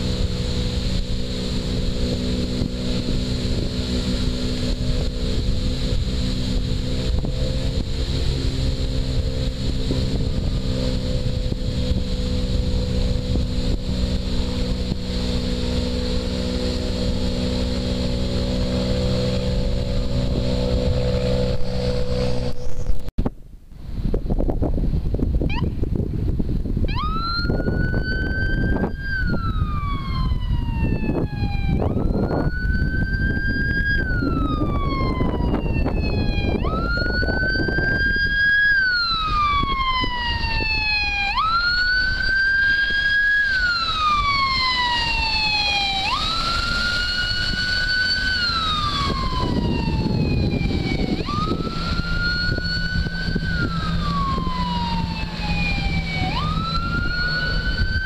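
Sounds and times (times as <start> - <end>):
siren wailing: 0.0 - 23.0, 25.5 - 25.8, 26.8 - 58.0
wind buffeting microphone: 0.0 - 58.0.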